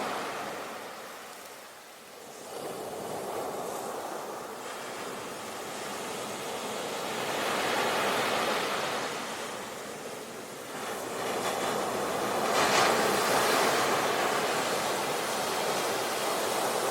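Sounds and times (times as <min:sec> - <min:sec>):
sea waves washing in: 0:00.0 - 0:16.9.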